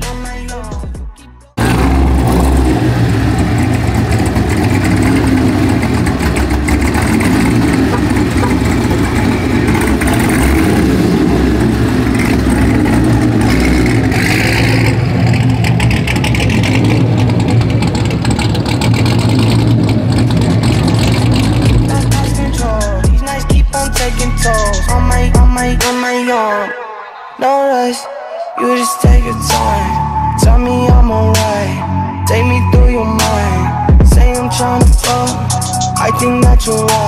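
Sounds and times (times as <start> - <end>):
car engine idling: 1.6 - 37.0.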